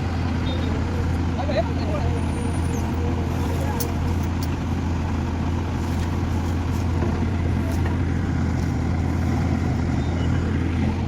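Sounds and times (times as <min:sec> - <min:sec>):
large diesel engine running: 0:00.0 - 0:11.0.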